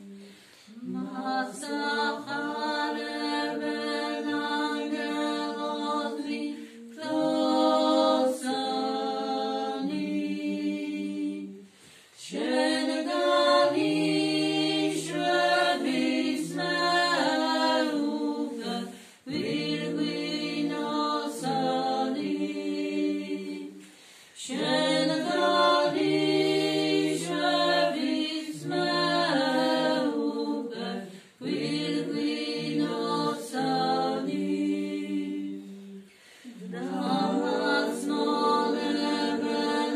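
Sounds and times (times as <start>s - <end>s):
women singing a hymn: 0.0s - 39.9s.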